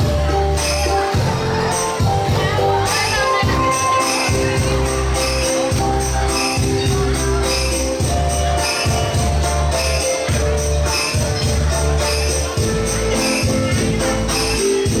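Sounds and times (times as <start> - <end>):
dance music with pulsing bass: 0.0 - 15.0
jingling bell-like percussion: 0.0 - 15.0.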